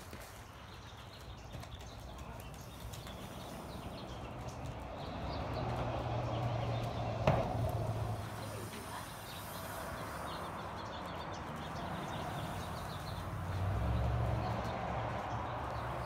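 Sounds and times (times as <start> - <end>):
horse hooves on sand: 0.0 - 16.0
small birds chirping: 0.0 - 16.0.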